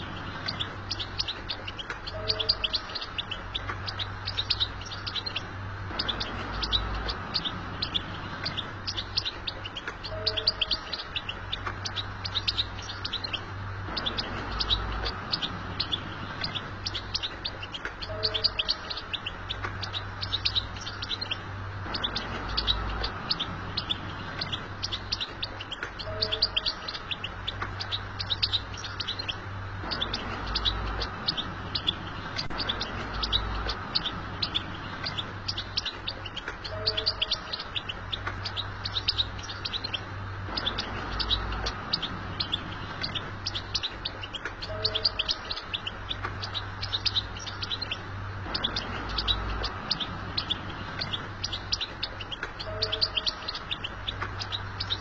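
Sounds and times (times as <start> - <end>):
bird twittering: 0.0 - 55.0.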